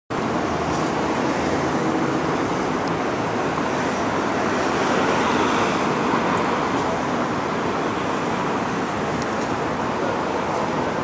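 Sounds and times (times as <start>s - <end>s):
street traffic hiss and rumble: 0.1s - 11.0s.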